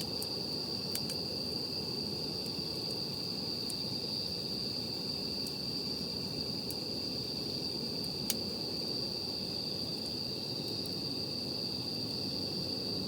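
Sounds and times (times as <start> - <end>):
campfire crackling: 0.0 - 13.0
high-pitched insect trill: 0.0 - 13.0.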